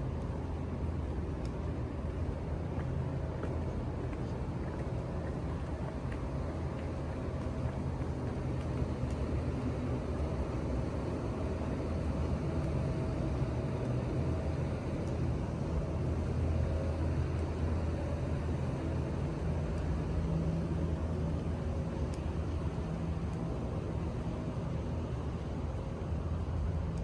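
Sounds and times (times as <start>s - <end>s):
city ambience: 0.0s - 27.0s
low mechanical rumble with hum: 0.0s - 27.0s.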